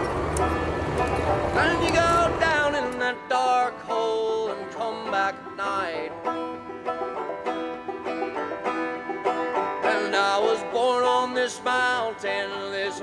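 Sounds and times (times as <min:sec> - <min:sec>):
bluegrass banjo music: 0:00.3 - 0:13.0.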